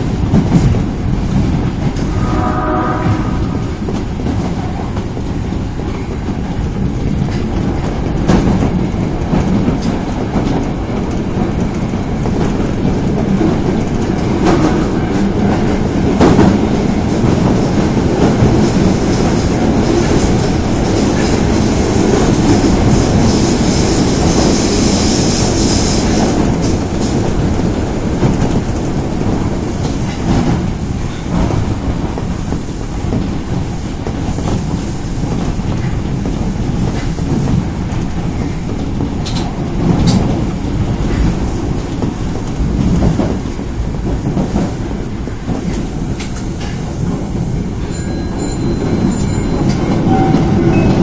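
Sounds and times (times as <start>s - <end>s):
train rumbling at speed: 0.0s - 51.0s.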